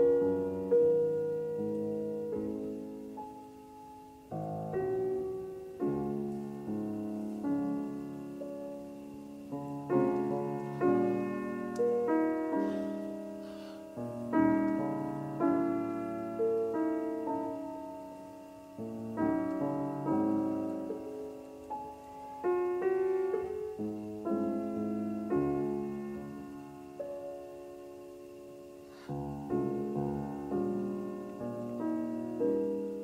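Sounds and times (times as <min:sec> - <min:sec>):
slow piano chords: 0:00.0 - 0:33.0.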